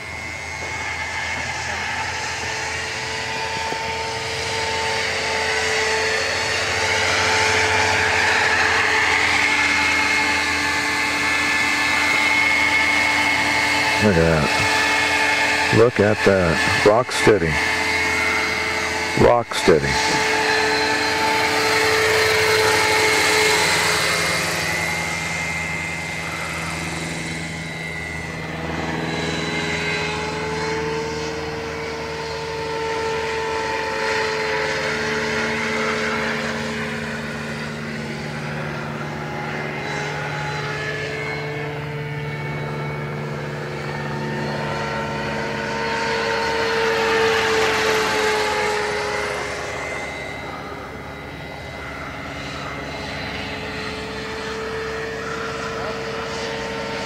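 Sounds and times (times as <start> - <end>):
electric motor whine: 0.0 - 57.0
rotor blades whirring: 0.0 - 57.0.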